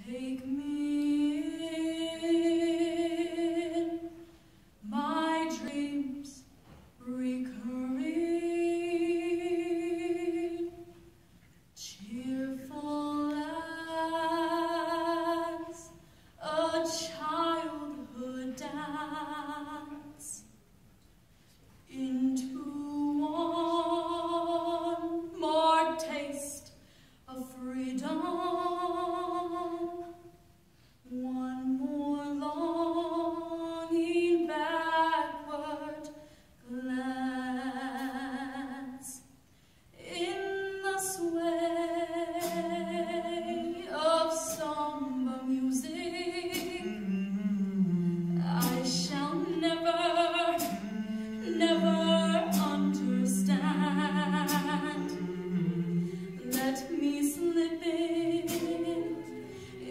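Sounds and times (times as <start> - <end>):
woman singing unaccompanied: 0.0 - 4.1, 4.8 - 11.0, 11.8 - 20.5, 21.9 - 26.7, 27.3 - 30.2, 31.1 - 39.2, 40.0 - 59.9.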